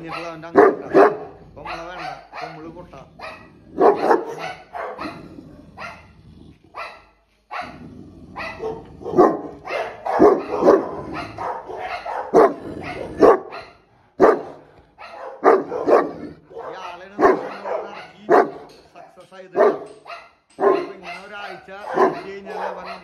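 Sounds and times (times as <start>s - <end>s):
large dog barking: 0.0s - 23.0s.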